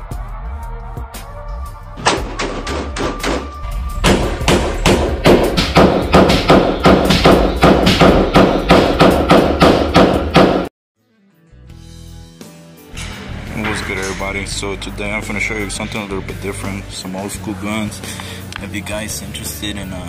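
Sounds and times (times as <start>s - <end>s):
low background music: 0.0s - 20.0s.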